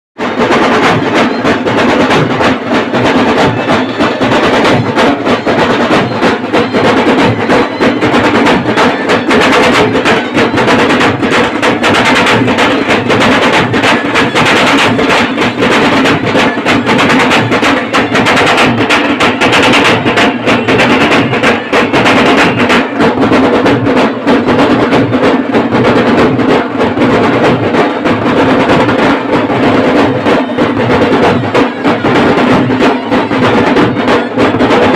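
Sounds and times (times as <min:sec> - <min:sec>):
fast drumming: 0:00.2 - 0:34.9.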